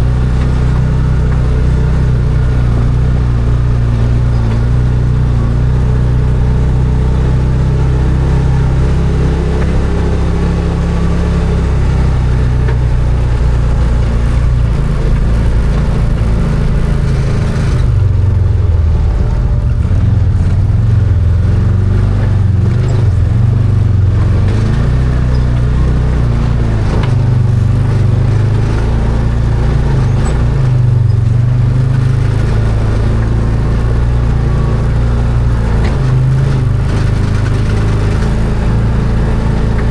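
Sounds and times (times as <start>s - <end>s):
side-by-side engine while driving: 0.0s - 39.9s.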